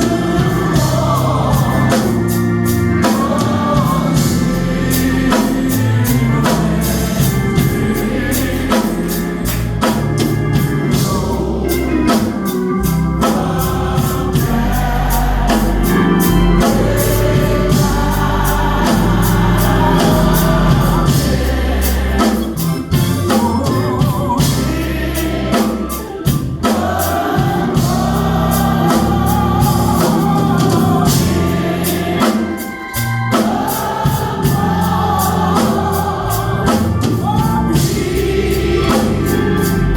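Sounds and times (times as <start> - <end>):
gospel singing: 0.0 - 39.9
organ: 0.0 - 39.9.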